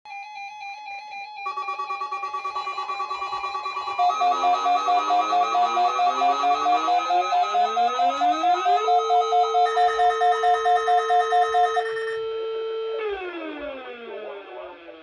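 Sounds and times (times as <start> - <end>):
pulsing electronic alarm tones: 0.1 - 13.0.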